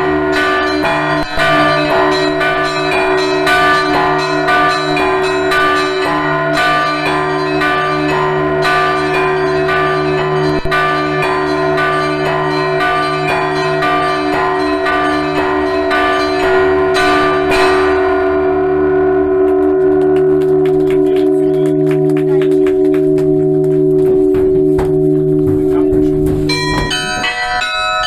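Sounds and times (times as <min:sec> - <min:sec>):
deep bells humming: 0:00.0 - 0:28.0.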